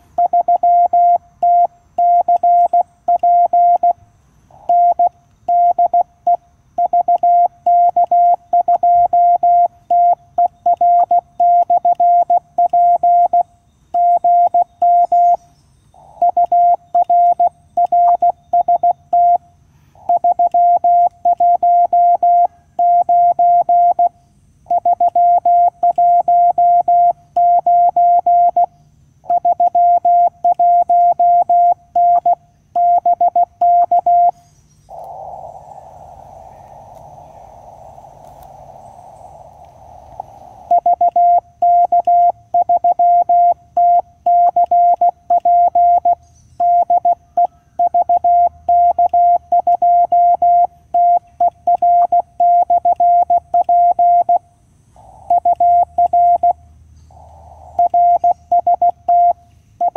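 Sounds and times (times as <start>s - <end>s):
morse code beeping: 0.0s - 4.0s, 4.6s - 15.4s, 16.1s - 19.4s, 20.0s - 28.7s, 29.3s - 54.4s, 55.2s - 56.6s, 57.2s - 59.9s.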